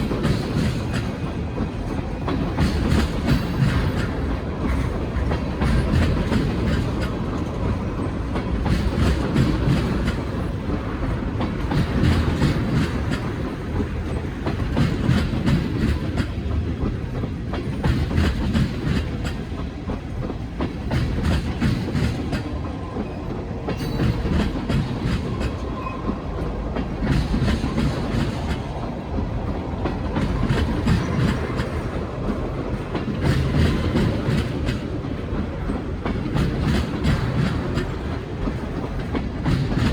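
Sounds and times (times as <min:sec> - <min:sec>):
freight train low rumble: 0:00.0 - 0:39.9
wheels clicking over rail joints: 0:00.0 - 0:39.9.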